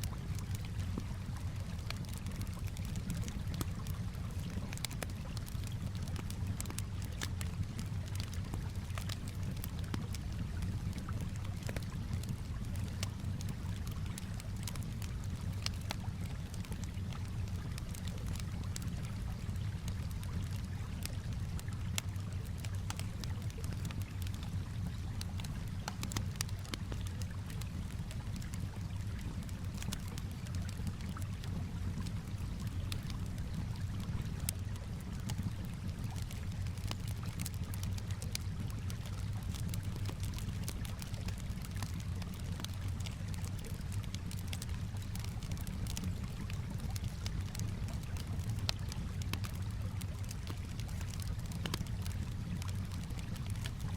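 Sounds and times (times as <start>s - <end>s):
calm water washing: 0.0s - 53.9s
campfire crackling and popping: 0.0s - 53.9s.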